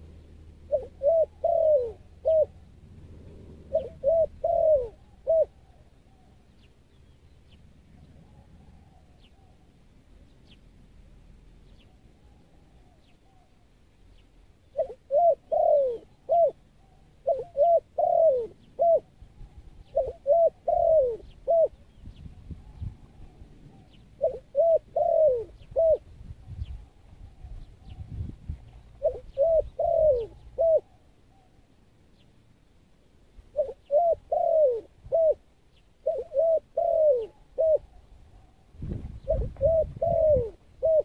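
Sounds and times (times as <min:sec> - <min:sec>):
dove cooing: 0:00.0 - 0:06.4, 0:07.9 - 0:09.8, 0:14.6 - 0:31.7, 0:33.5 - 0:41.0
small birds chirping: 0:00.0 - 0:41.0.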